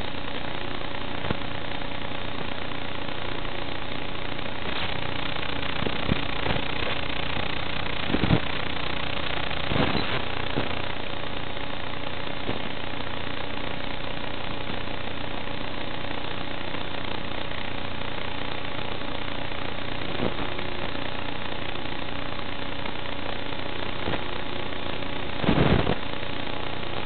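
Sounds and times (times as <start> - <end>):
faint drone motor whine: 0.0 - 27.0.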